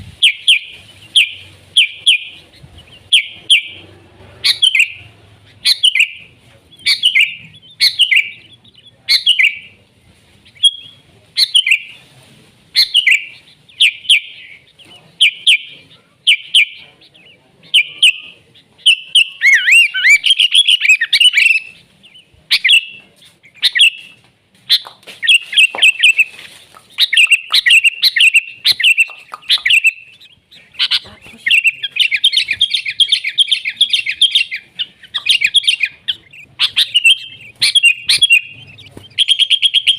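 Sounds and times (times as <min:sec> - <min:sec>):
bulbul singing: 0:00.0 - 0:12.0, 0:12.7 - 0:39.9.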